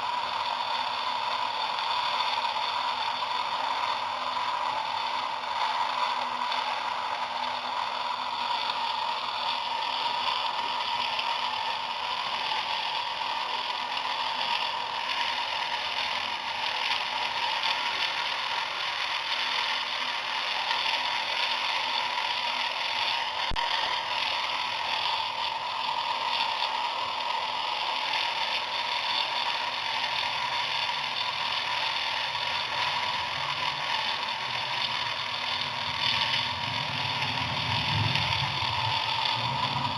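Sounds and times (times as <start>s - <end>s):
small electric motor whirring: 0.0s - 39.9s.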